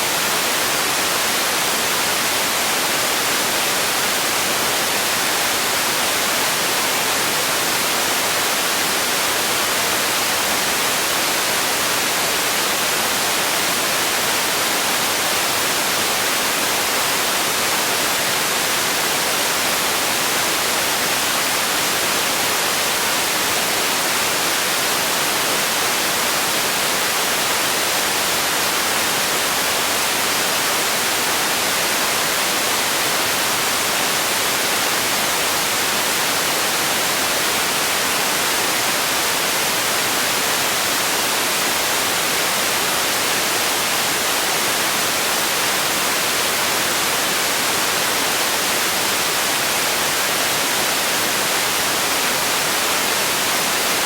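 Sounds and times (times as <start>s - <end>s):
static white noise hiss: 0.0s - 54.0s.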